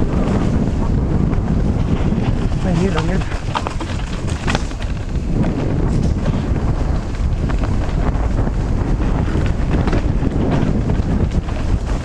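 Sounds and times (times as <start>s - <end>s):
bike knocks and rattles: 0.0s - 12.0s
wind buffeting microphone: 0.0s - 12.0s.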